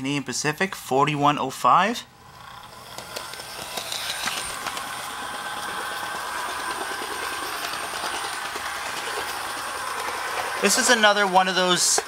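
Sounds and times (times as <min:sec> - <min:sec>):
model locomotive motor whirring: 0:02.2 - 0:12.0.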